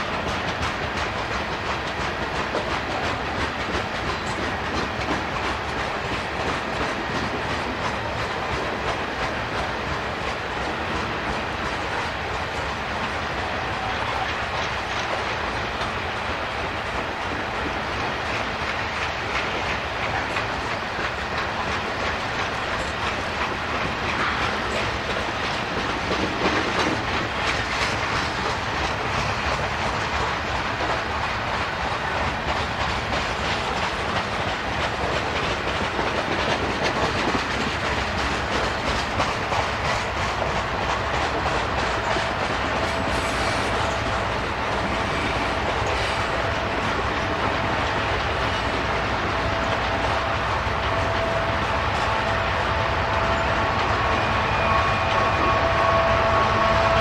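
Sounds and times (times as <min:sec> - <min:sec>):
diesel locomotive running quietly: 0:00.0 - 0:57.0
train wheels clacking on rail joints: 0:00.0 - 0:57.0.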